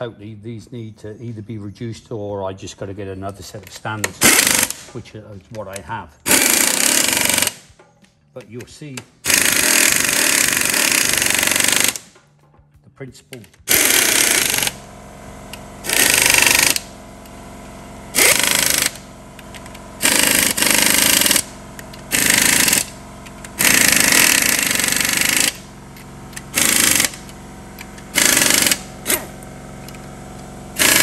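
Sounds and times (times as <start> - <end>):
impact wrench bursts: 3.6 - 12.3, 13.4 - 31.0.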